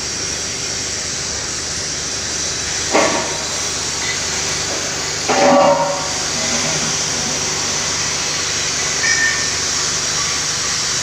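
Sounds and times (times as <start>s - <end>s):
hissing machine noise: 0.0s - 11.0s.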